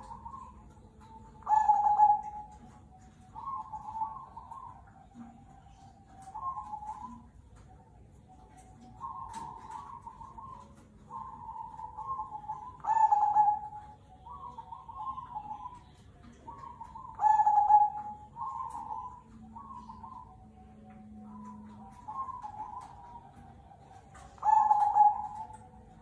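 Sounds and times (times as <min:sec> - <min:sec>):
doves cooing: 0:00.0 - 0:26.0.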